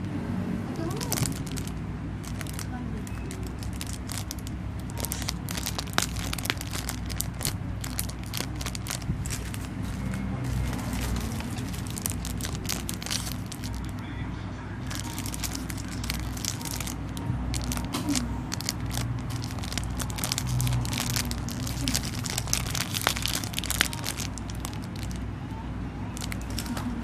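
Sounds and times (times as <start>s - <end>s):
plastic packaging crinkling: 0.8s - 14.0s, 14.8s - 25.3s, 26.2s - 27.0s.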